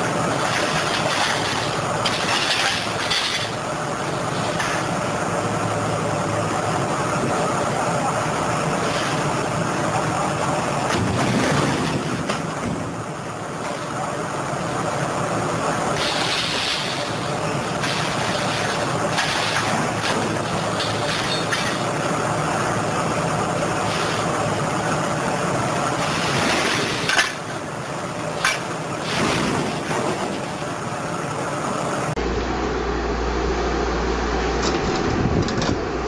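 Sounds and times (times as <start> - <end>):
heavy machine engine running: 0.0 - 36.0.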